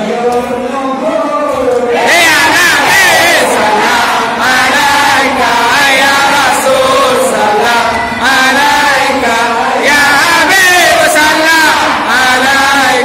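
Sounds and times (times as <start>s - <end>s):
men chanting in unison: 1.5s - 13.0s.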